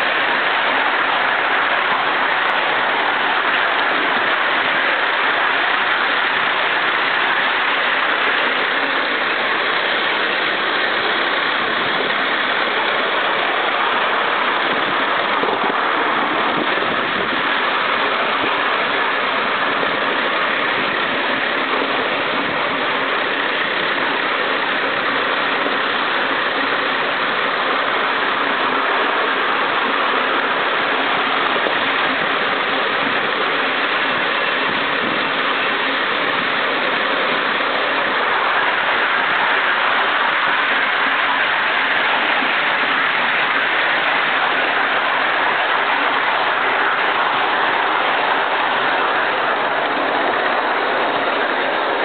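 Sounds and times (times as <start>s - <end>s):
steam locomotive hissing steam: 0.0s - 52.0s.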